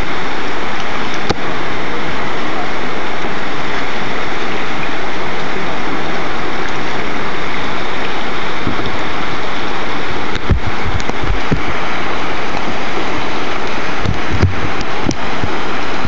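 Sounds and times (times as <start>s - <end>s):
whitewater rushing in river rapid: 0.0s - 16.0s.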